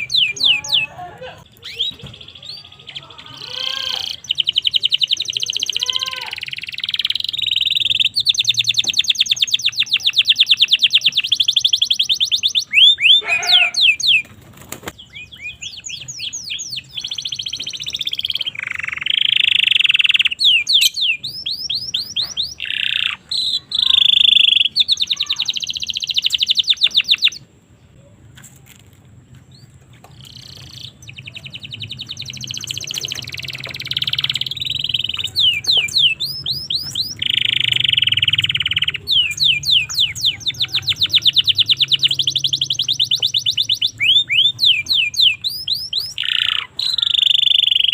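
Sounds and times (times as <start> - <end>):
canary singing trills: 0.0 - 28.0, 29.5 - 47.9.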